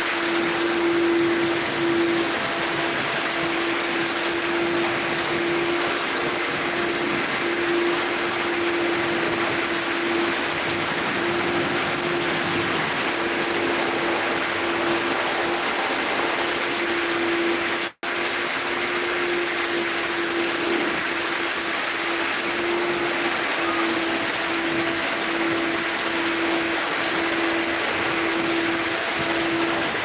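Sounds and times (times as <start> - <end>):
car wash machinery rushing: 0.0 - 30.0
steady mid-pitched hum: 0.0 - 30.0.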